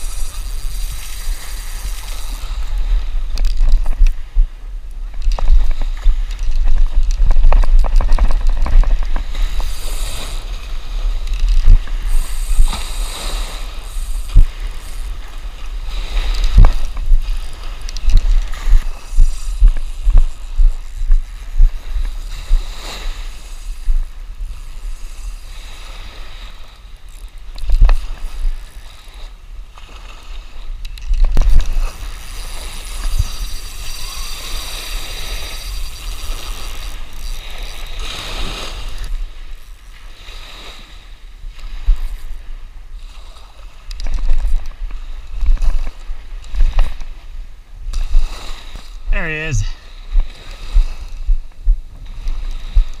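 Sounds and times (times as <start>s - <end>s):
fishing reel whirring and clicking: 0.0s - 47.2s, 52.0s - 53.0s
wind buffeting microphone: 0.0s - 49.1s, 49.9s - 53.0s
small waves washing: 0.0s - 53.0s.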